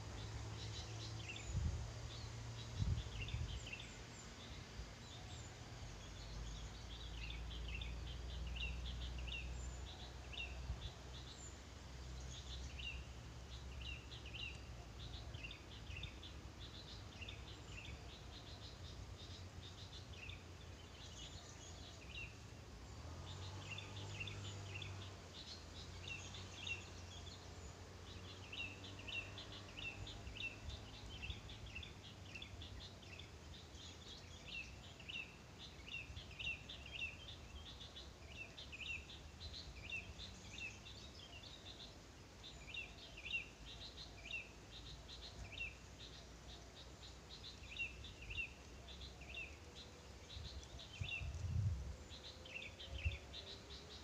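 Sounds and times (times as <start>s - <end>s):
small birds chirping faintly: 0.0s - 54.0s.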